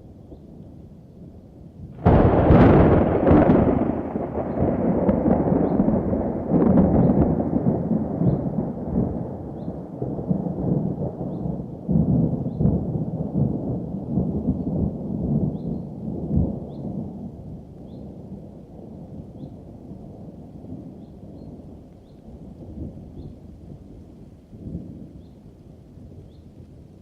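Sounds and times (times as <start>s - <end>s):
thunder rumbling: 0.0s - 27.0s.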